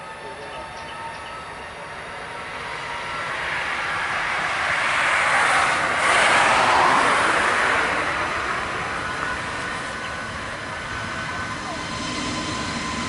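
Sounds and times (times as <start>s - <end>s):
jet passing by: 0.0s - 13.0s.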